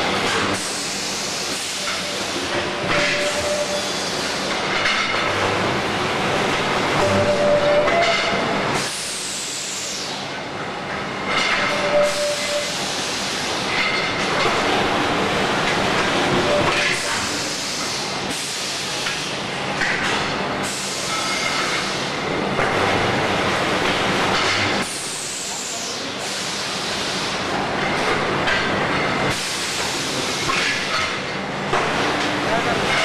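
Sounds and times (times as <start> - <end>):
industrial machinery running: 0.0 - 33.0.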